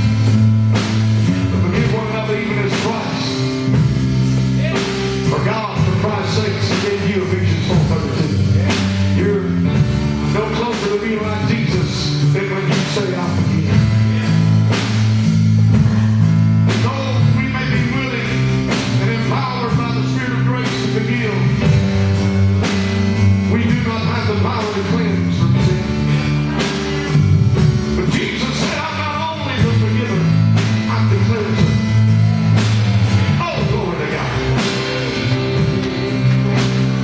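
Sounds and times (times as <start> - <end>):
bass guitar low notes: 0.0 - 37.0
drum kit: 0.0 - 37.0
piano: 0.0 - 37.0.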